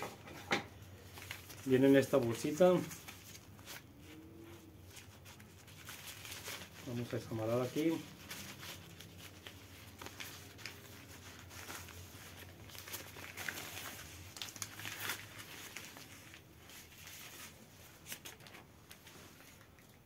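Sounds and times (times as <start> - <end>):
plastic bag rustling: 0.0 - 20.0.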